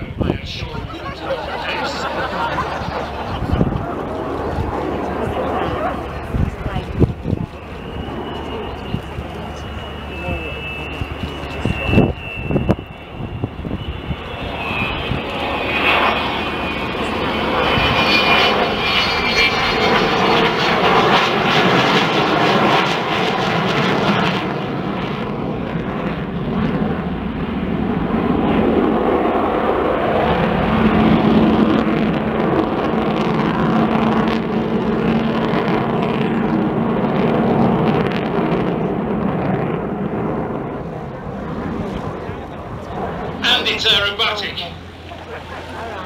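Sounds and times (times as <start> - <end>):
jet bomber flying past: 0.0 - 46.0.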